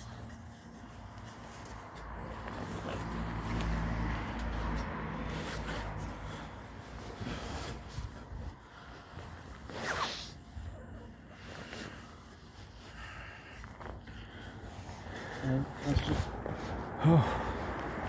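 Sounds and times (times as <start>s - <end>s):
vehicle engine humming: 0.0s - 9.8s, 10.8s - 18.0s.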